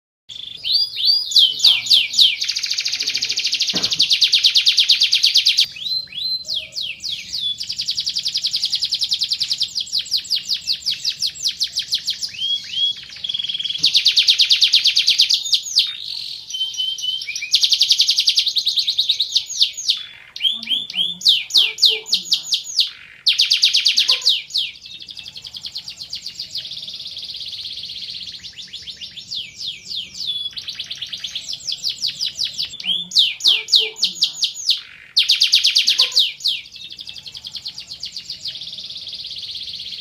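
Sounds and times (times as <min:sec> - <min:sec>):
canary singing trills: 0:00.3 - 0:40.0.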